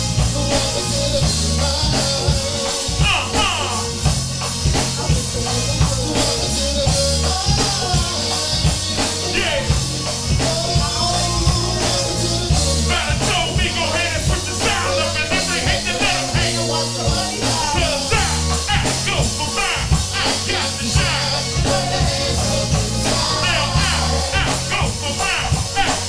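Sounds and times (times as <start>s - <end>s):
rock song with singing: 0.0s - 26.0s.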